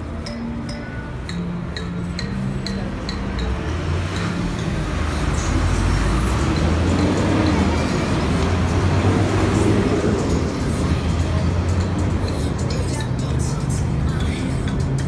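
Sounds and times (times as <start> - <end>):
large vehicle engine rumble: 0.0 - 15.0
road noise: 0.0 - 15.0.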